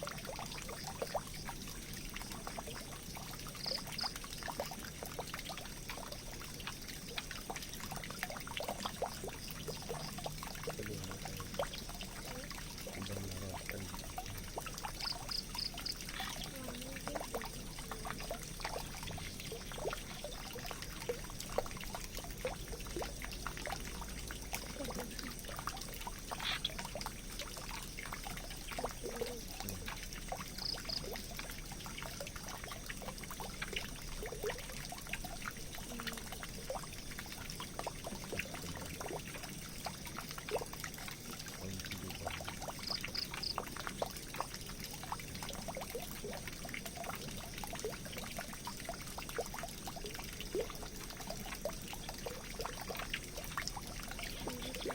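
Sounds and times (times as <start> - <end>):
water trickling down a drain: 0.0 - 54.9.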